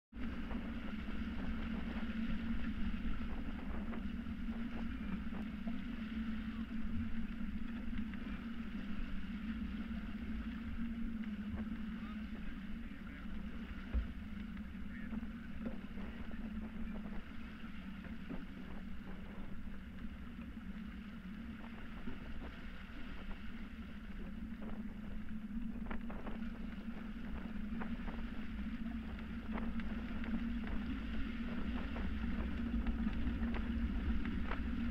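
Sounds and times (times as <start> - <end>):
low rumble: 0.1 - 34.9
water rushing along hull: 0.1 - 34.9.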